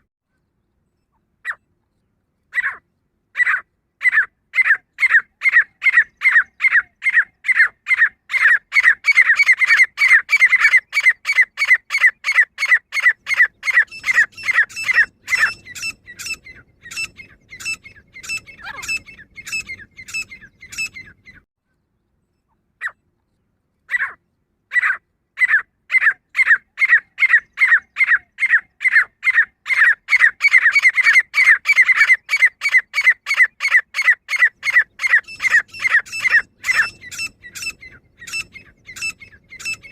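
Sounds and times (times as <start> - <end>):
francolin calling: 3.4 - 21.4, 24.8 - 39.9.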